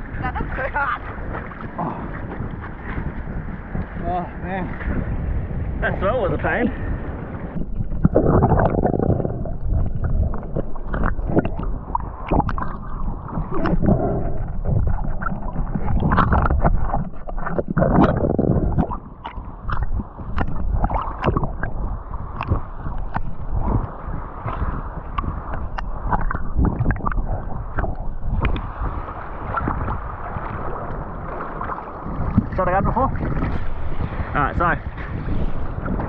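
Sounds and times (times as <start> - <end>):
muffled water sloshing: 0.0 - 36.0.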